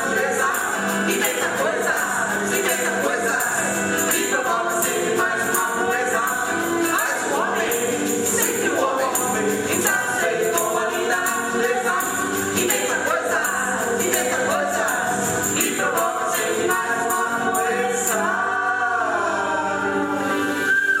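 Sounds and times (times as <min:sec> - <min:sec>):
tambourine shaking: 0:00.0 - 0:18.3
group of voices singing: 0:00.0 - 0:21.0.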